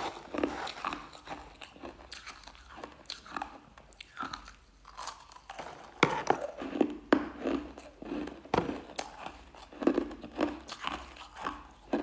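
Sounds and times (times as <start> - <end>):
ice being chewed: 0.0 - 12.0.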